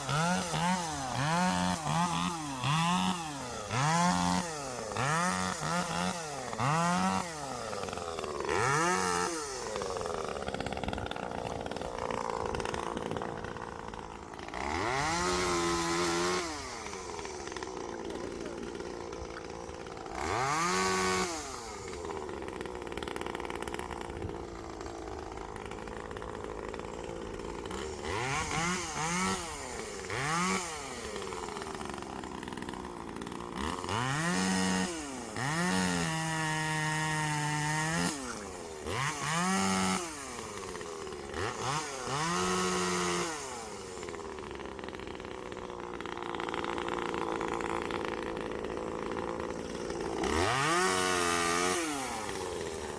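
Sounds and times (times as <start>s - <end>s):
chainsaw idling and revving: 0.0s - 52.9s.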